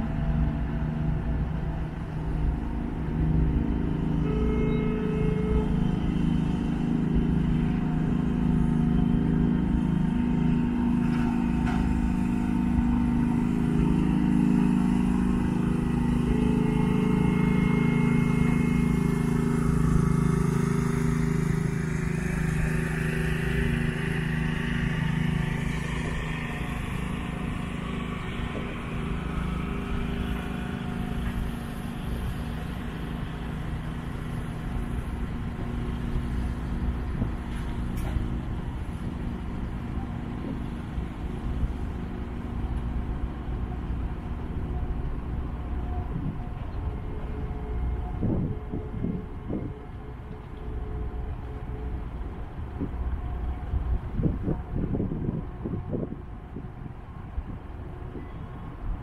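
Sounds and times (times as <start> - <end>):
engine droning hum: 0.0 - 59.0.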